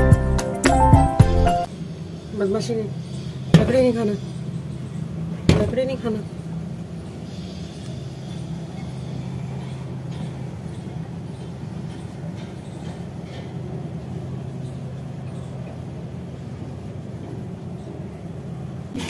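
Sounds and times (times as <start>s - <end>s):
low mechanical hum: 1.3s - 19.0s.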